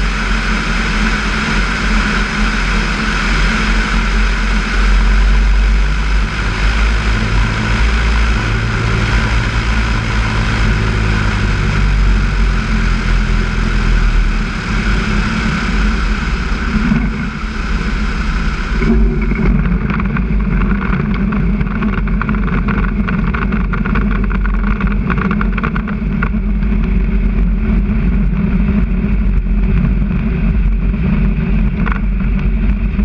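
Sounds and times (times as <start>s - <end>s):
light aircraft engine and propeller: 0.0s - 33.0s
wheels rolling on grass hum: 0.0s - 33.0s
wind noise: 0.0s - 33.0s.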